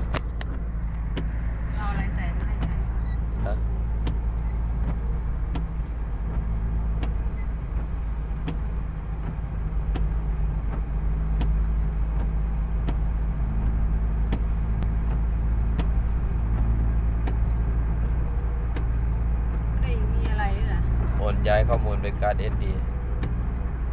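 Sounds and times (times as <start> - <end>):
car engine drone inside cabin: 0.0 - 23.9
light ticking: 0.1 - 23.6.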